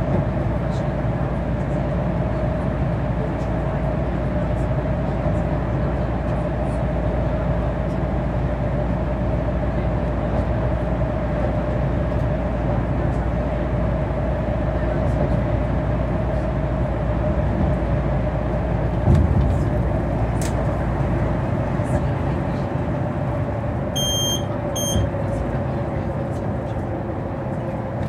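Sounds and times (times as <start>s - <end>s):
bus engine and tyres droning: 0.0s - 28.0s.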